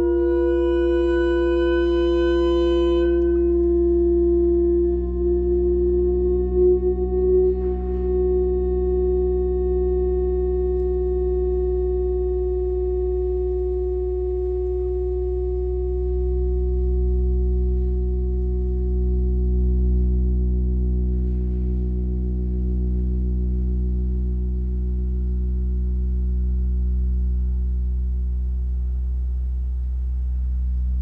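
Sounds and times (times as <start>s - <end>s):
deep low hum: 0.0s - 31.0s
sustained sine tone drone: 0.0s - 31.0s.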